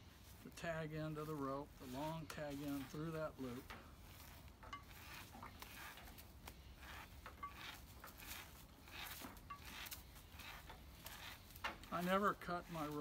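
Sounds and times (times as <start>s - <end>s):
rope rustling through loop: 0.0s - 13.0s.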